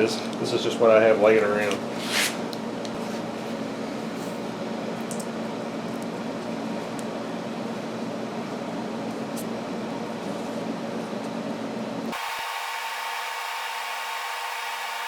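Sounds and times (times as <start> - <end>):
fan-like mechanical hum: 0.0 - 15.0.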